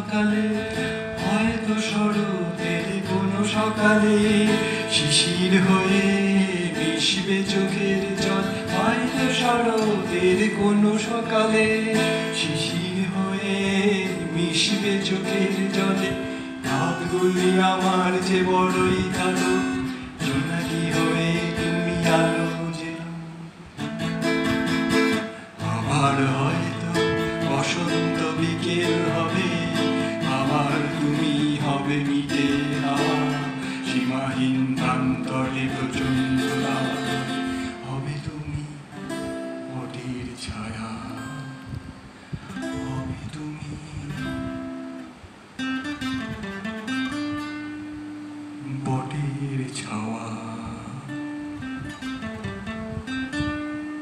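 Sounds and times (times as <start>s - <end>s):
acoustic guitar strummed chords: 0.0s - 54.0s.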